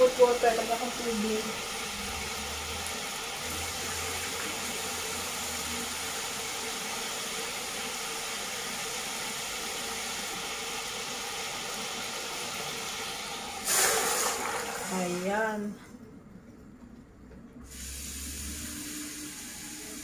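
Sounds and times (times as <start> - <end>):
pressure cooker water hissing: 0.0 - 15.6, 17.6 - 20.0.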